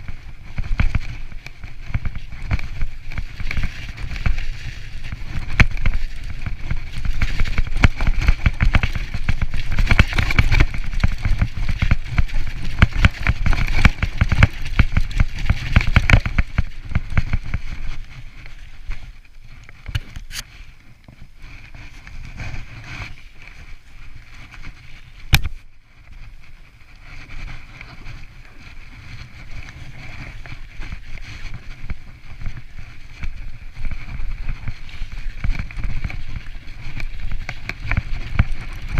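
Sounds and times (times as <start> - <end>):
bike frame and tyres rattling: 0.0 - 38.9.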